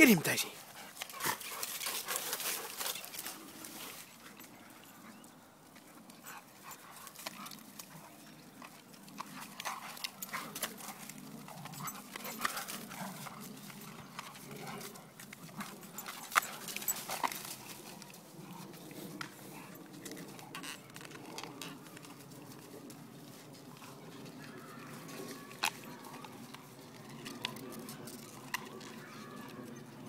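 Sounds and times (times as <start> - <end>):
dogs play-fighting: 0.6 - 30.0.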